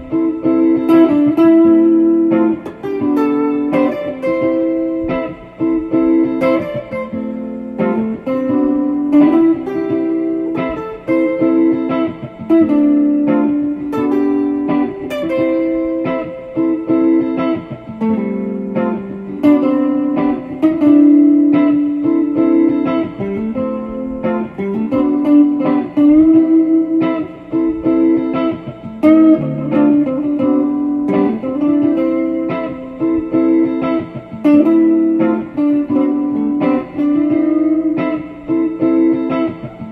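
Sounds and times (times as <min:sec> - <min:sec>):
plucked guitar instrumental: 0:00.0 - 0:39.9.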